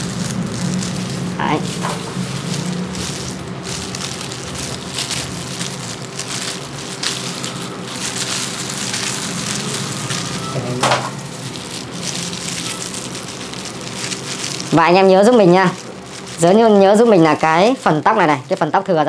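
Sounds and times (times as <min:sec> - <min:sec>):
plastic gloves crinkling: 0:00.0 - 0:19.0
steady low hum: 0:00.0 - 0:19.0.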